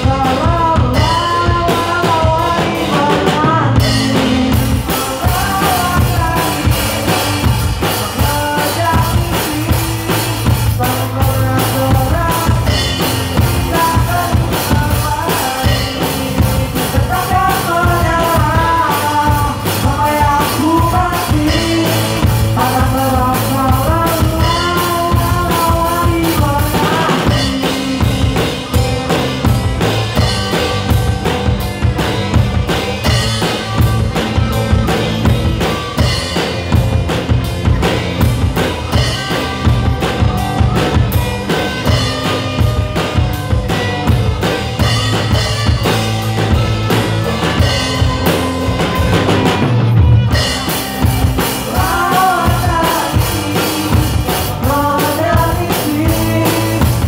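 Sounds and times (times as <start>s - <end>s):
drum kit beat: 0.0s - 57.0s
electric guitar: 0.0s - 57.0s
live rock band playing: 0.0s - 57.0s.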